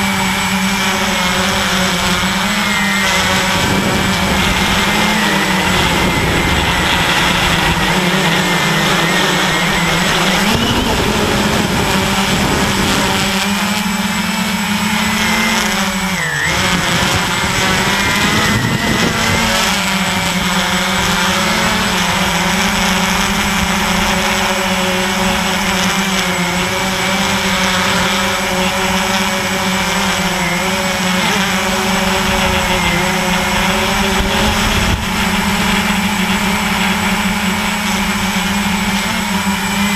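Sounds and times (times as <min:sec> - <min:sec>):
drone motors buzzing: 0:00.0 - 0:39.9
wind and propeller wash hiss: 0:00.0 - 0:39.9.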